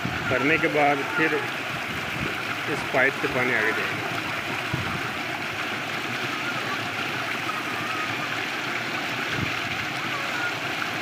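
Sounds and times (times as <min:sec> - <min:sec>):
water rushing along a channel: 0:00.0 - 0:11.0.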